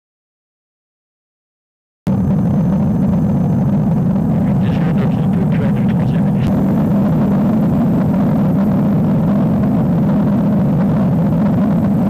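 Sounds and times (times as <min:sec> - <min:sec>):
helicopter rotor and engine drone: 0:02.1 - 0:12.0.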